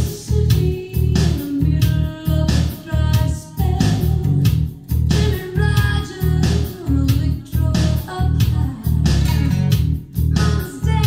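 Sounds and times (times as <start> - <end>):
person singing: 0.0 - 9.7, 10.3 - 11.0.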